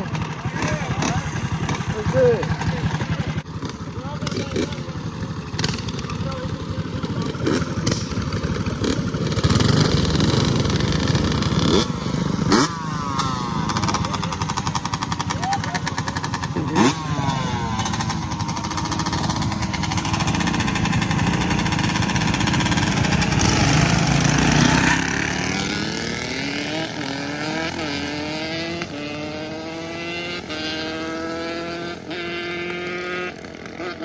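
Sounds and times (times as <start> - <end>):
motorbike engine passing: 0.0 - 34.0.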